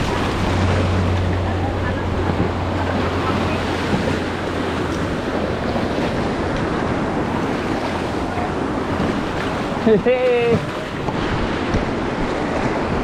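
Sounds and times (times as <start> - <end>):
river rapids rushing: 0.0 - 13.0
wind rumbling on microphone: 0.0 - 13.0.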